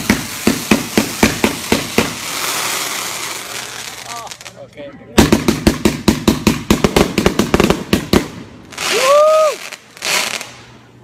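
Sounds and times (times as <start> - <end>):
fireworks bangs: 0.0 - 4.5, 5.2 - 11.0
hissing firework bursts: 0.0 - 4.6, 5.2 - 11.0.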